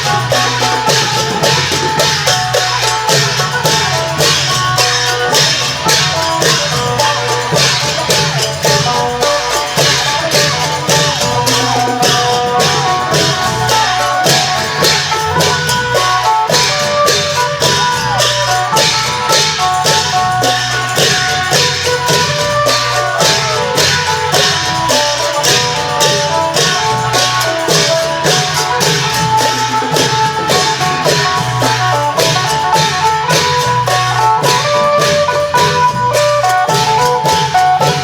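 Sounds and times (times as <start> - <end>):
cymbals keeping a beat: 0.0 - 38.0
long drums: 0.0 - 38.0.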